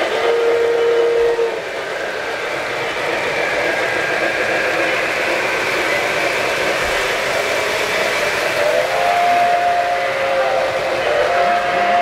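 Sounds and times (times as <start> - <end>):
model trains rolling on track: 0.0 - 12.0.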